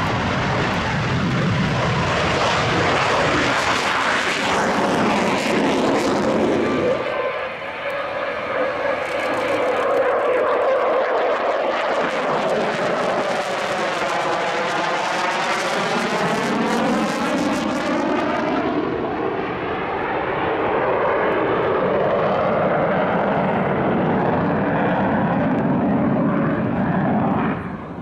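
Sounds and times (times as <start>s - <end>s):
jet aircraft roaring past: 0.0s - 28.0s.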